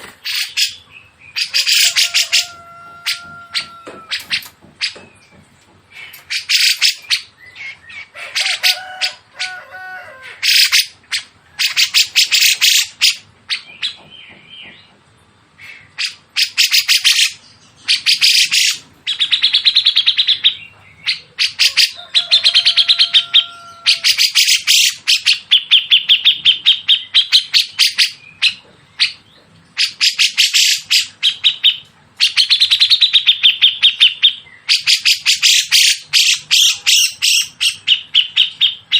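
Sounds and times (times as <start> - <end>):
birds chattering trills: 0.0 - 38.9.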